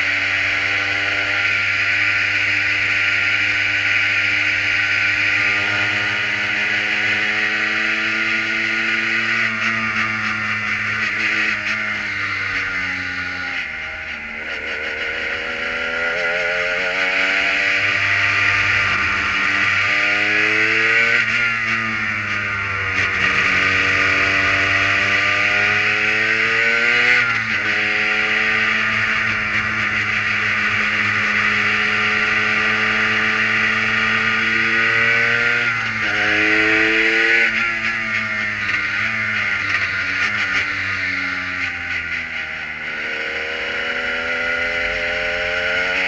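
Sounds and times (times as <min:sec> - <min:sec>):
race car engine revving: 0:00.0 - 0:46.0.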